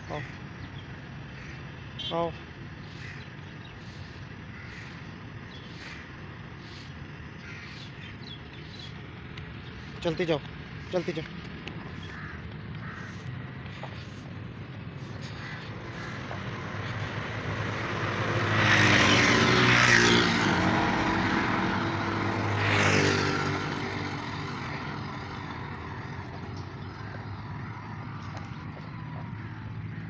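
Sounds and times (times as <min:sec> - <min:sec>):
vehicles passing by: 0:00.0 - 0:30.0.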